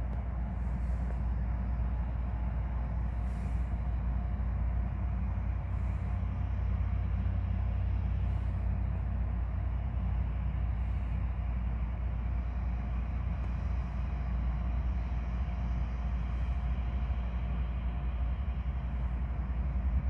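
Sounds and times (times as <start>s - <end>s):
diesel locomotives rumbling: 0.0s - 20.0s
faint steady hum: 0.0s - 20.0s.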